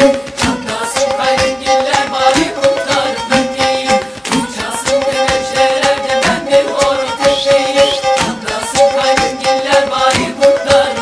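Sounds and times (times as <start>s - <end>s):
busy percussion beat: 0.0s - 11.0s.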